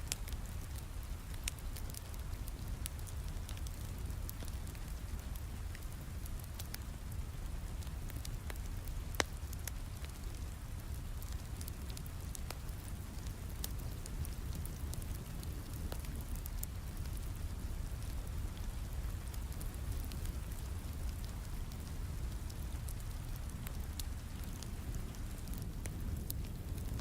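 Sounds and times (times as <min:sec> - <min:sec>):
fireplace crackling: 0:00.0 - 0:27.0
steady rain with low rumble: 0:00.0 - 0:27.0.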